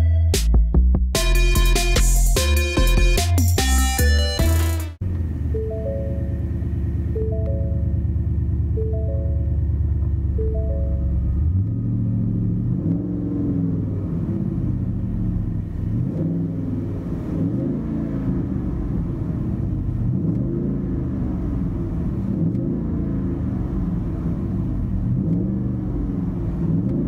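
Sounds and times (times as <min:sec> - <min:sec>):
truck engine revving: 0:01.2 - 0:27.0.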